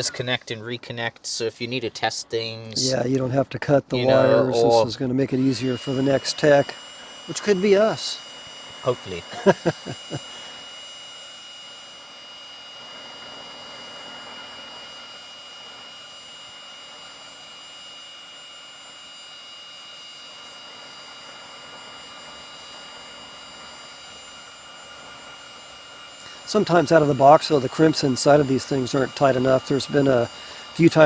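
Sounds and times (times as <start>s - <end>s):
heat gun blowing with high whine: 0.0s - 0.3s, 3.8s - 31.0s.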